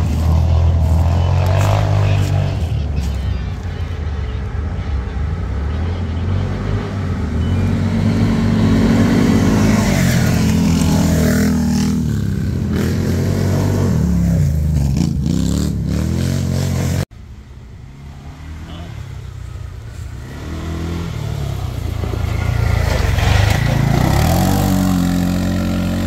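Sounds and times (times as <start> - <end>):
atv engine revving: 0.0 - 17.1, 17.8 - 26.0.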